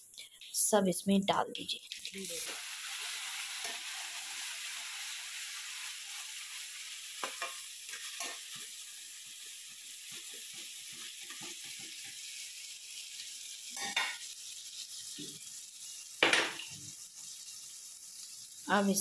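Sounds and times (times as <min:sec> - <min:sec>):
paste sizzling in hot oil: 0:01.6 - 0:19.0.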